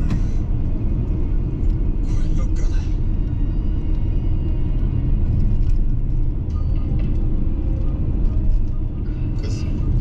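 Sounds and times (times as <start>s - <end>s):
car cabin road and engine rumble: 0.0s - 10.0s.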